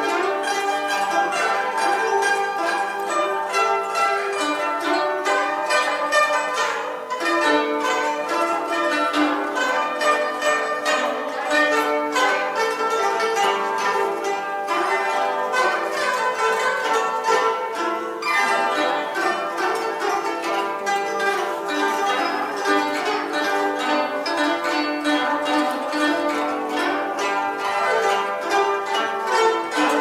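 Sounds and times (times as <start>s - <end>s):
plucked zithers playing: 0.0s - 30.0s.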